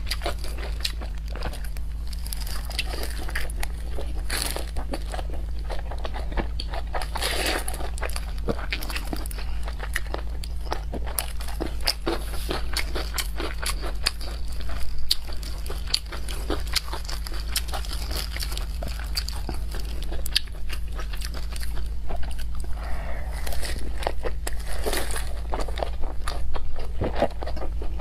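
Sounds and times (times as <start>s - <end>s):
low steady hum: 0.0s - 28.0s
wet chewing and lip-smacking: 0.0s - 28.0s.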